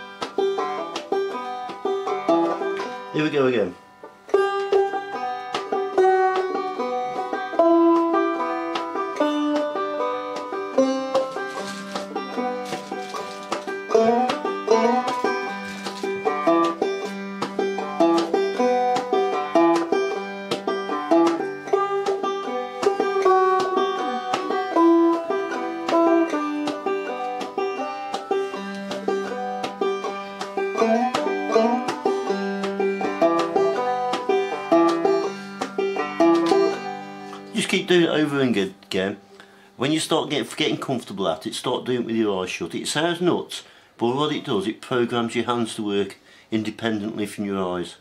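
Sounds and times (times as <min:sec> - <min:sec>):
banjo plucked clawhammer style: 0:00.0 - 0:46.1.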